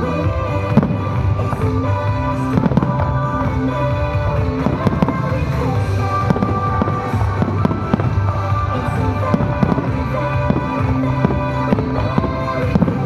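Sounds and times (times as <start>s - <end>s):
loud music: 0.0s - 13.0s
fireworks banging: 0.7s - 13.0s.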